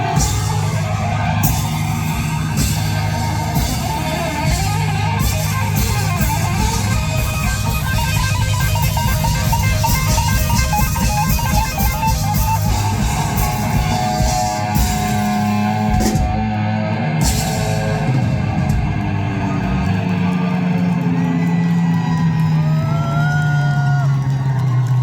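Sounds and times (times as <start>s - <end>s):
live rock band playing: 0.0s - 22.9s.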